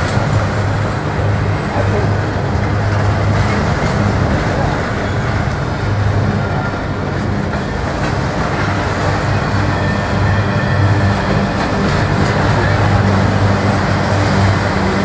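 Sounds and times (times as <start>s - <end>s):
train wheels rumbling with clatter: 0.0s - 15.0s.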